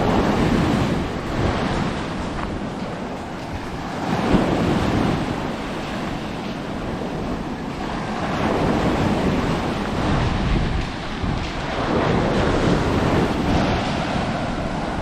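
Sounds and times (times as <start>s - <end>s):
sea surf on sandy beach: 0.0s - 15.0s
wind buffeting microphone: 0.0s - 15.0s.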